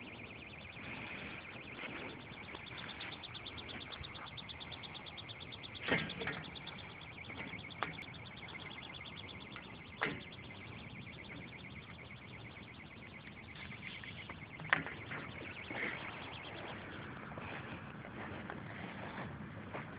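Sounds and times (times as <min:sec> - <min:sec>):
high-pitched pulsing: 0:00.0 - 0:17.5.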